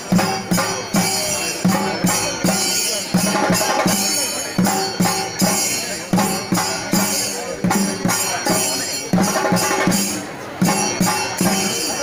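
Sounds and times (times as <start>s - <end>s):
steady drum strikes: 0.0s - 12.0s.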